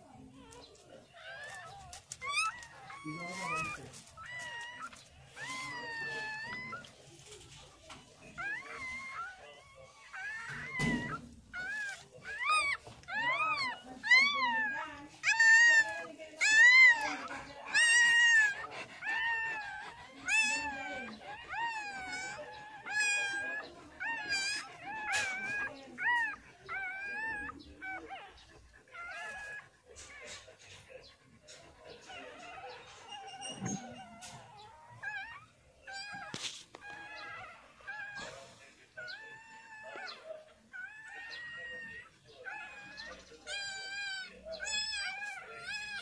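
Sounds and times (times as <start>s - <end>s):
newborn puppies crying: 0.1s - 31.0s, 31.6s - 46.0s.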